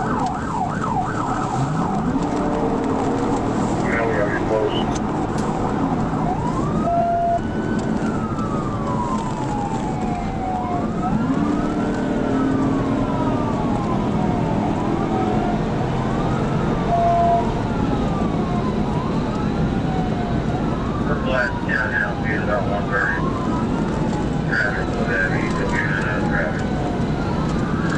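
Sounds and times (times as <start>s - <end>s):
car road and engine noise: 0.0s - 27.9s
police siren wailing: 0.0s - 27.9s.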